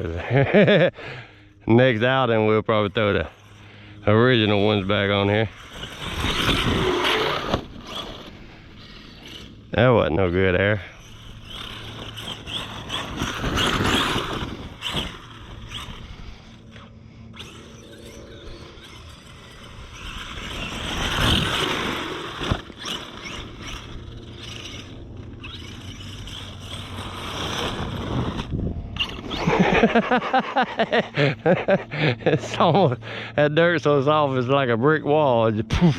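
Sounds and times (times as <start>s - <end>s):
electric motor whining: 0.0s - 32.4s
tires churning soft dirt: 0.0s - 35.9s.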